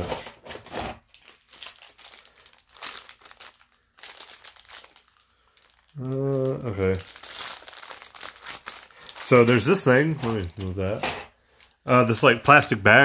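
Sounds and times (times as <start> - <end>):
plastic packaging crinkling: 1.0 - 11.9.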